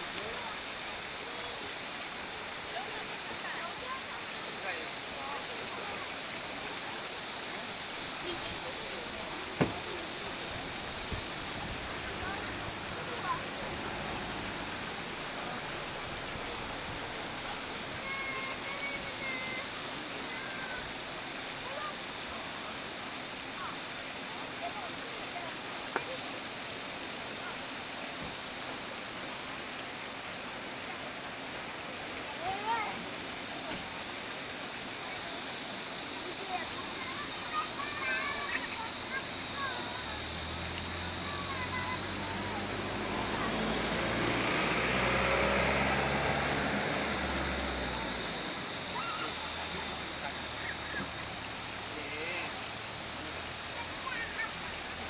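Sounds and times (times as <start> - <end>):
distant voices of people playing: 0.0 - 55.0
stream flowing over rocks: 0.0 - 55.0.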